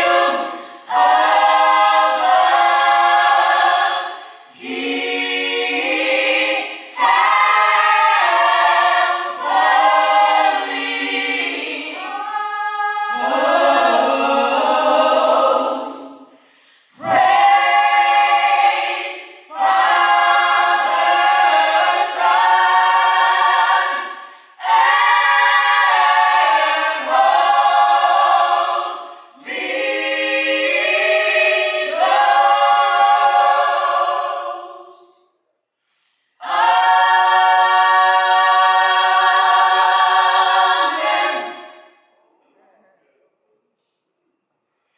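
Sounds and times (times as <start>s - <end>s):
choir singing a cappella: 0.0s - 42.1s.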